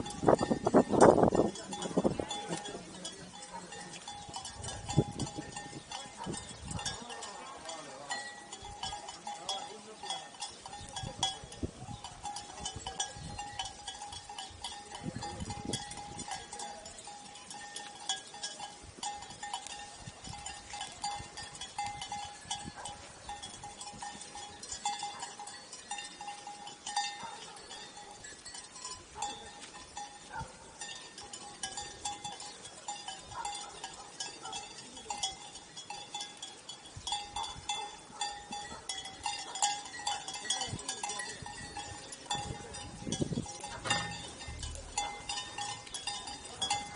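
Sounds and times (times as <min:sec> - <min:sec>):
sheep bells clinking: 0:00.0 - 0:46.9.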